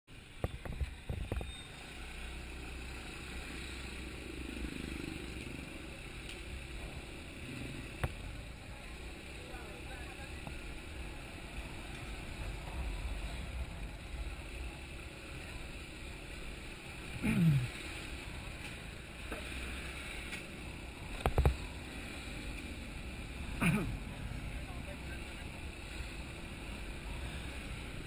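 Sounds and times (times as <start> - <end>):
motorcycle engine and road rumble: 0.1 - 28.0.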